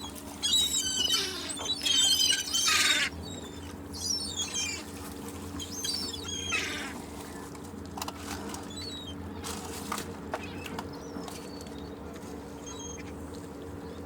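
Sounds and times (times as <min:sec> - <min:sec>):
seagulls calling: 0:00.0 - 0:07.4, 0:08.4 - 0:09.6, 0:10.3 - 0:14.0.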